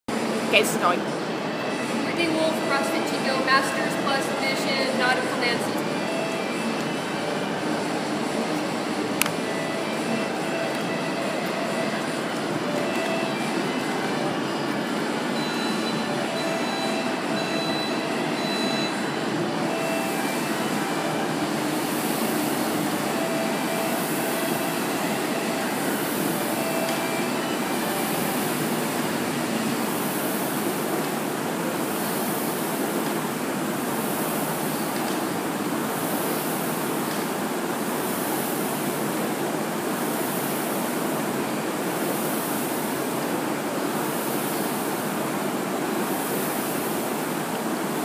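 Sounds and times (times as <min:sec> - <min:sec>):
rowing machine flywheel whirring: 0:00.1 - 0:48.0.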